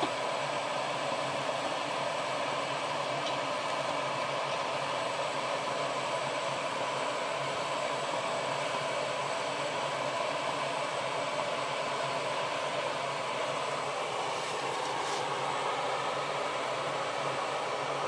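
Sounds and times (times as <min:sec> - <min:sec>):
gas burner flame hissing: 0:00.0 - 0:18.0.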